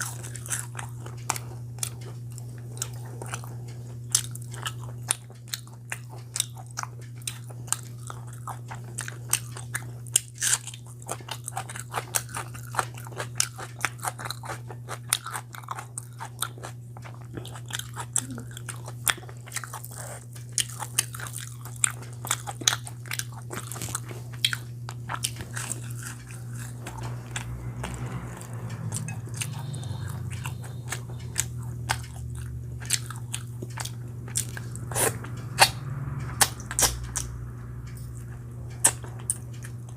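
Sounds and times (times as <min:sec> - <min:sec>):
steady low hum: 0:00.0 - 0:39.9
person biting and chewing: 0:02.7 - 0:27.4, 0:29.3 - 0:35.8, 0:36.4 - 0:37.3.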